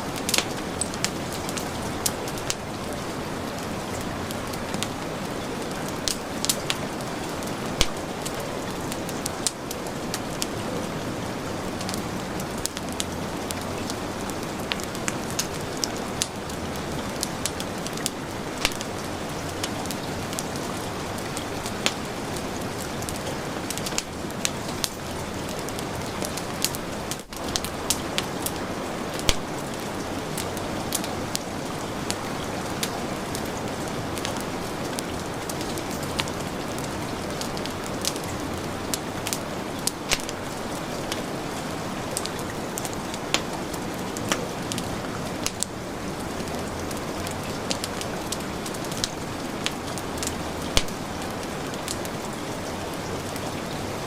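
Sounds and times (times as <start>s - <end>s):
heavy rain: 0.0s - 54.0s
wood fire crackling: 0.0s - 54.0s.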